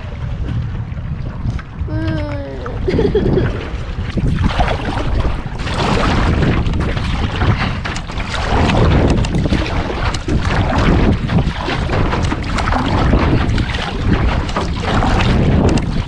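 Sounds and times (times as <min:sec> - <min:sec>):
water splashing around canoe: 0:00.0 - 0:16.0
wind buffeting microphone: 0:00.0 - 0:16.0.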